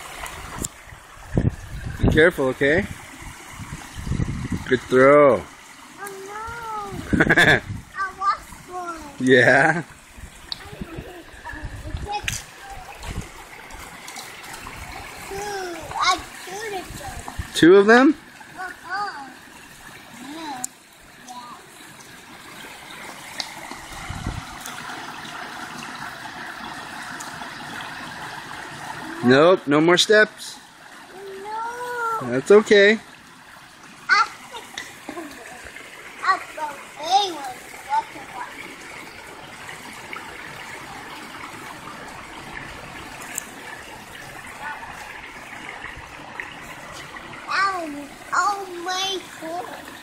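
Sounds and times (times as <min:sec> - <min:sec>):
running water rushing: 0:00.0 - 0:50.0.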